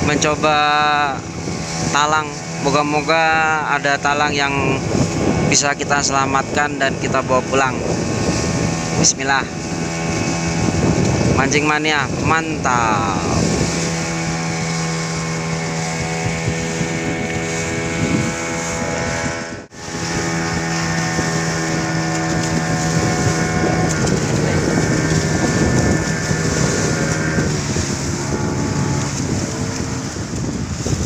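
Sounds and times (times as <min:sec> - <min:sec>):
small boat engine running: 0:00.0 - 0:31.0
wind buffeting microphone: 0:00.0 - 0:31.0.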